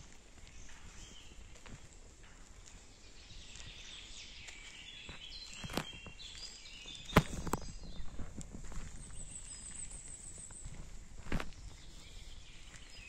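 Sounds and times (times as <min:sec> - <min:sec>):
sharp cracks underfoot: 0:00.0 - 0:09.7, 0:10.4 - 0:12.0
footsteps on forest path: 0:00.0 - 0:13.0
small birds chirping: 0:00.0 - 0:13.0.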